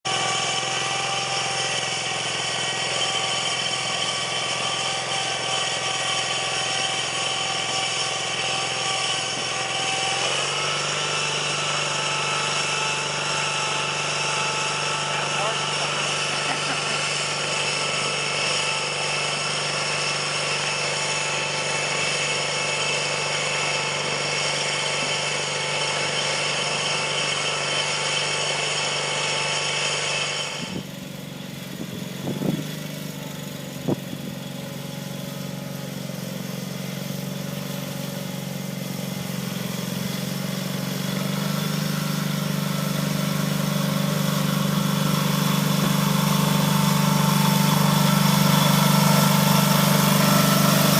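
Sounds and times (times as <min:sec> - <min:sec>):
garden tractor engine running: 0:00.0 - 0:50.9.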